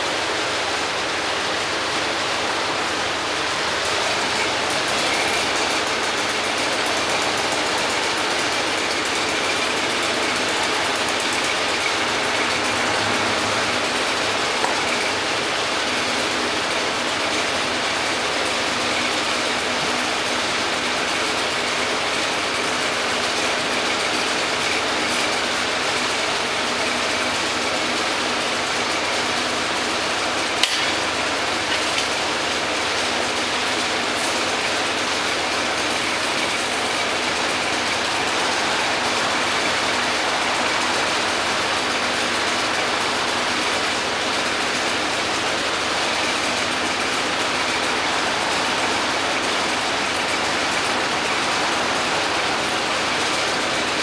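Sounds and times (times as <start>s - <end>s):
machinery droning: 2.1s - 54.0s.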